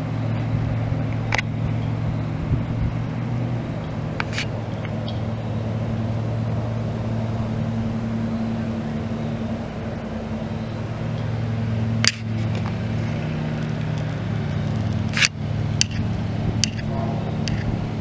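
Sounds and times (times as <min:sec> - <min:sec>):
diesel locomotive engine humming: 0:00.0 - 0:18.0.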